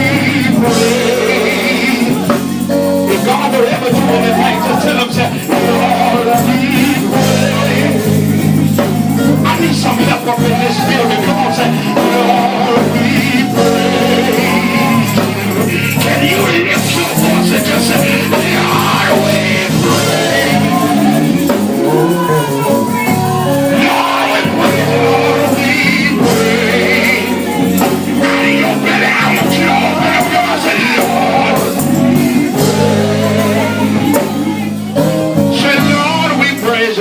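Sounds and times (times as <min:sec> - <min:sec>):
band playing: 0:00.0 - 0:37.0
voices singing: 0:00.0 - 0:37.0.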